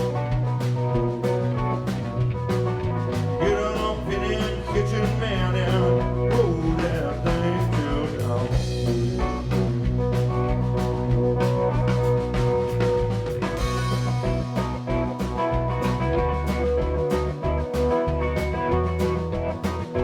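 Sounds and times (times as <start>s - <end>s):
bending lead guitar notes: 0.0s - 20.0s
blues rock band playing: 0.0s - 20.0s.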